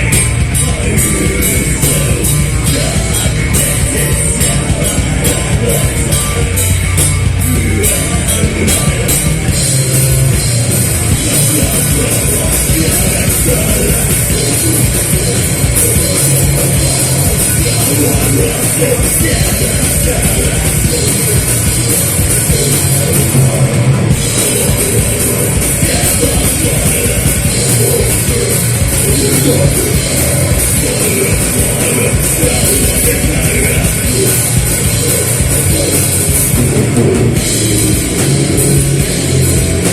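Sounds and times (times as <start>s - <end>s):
drum and cymbal hits: 0.0s - 39.9s
live rock band playing: 0.0s - 39.9s.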